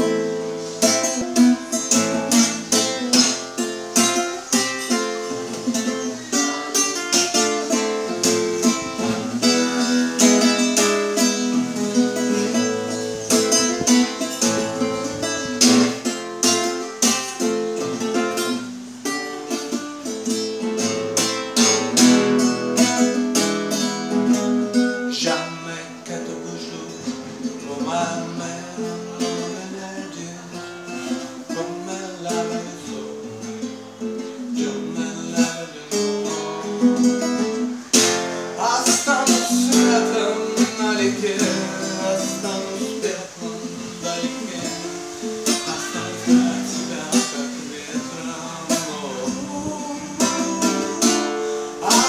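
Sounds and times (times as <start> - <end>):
acoustic guitar strumming chords: 0.0 - 52.0.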